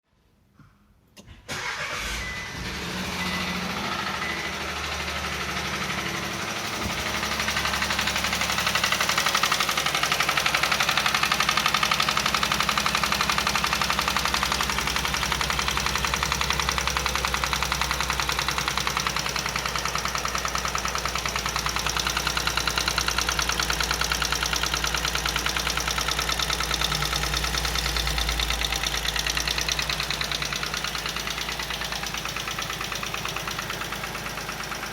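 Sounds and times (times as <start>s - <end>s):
engine cranking: 1.2s - 34.9s
engine idling with knocking: 3.5s - 34.9s.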